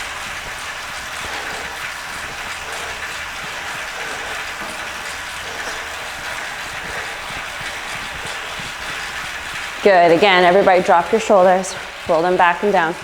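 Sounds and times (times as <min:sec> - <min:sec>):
bicycle trainer whirring: 0:00.0 - 0:13.0.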